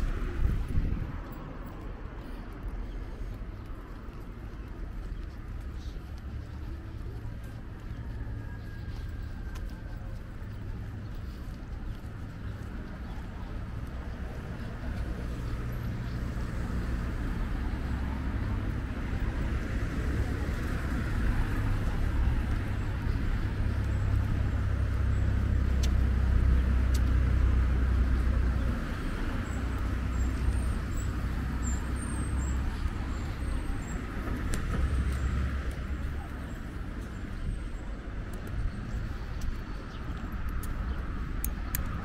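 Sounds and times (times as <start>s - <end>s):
cars passing on road: 0.0s - 42.0s.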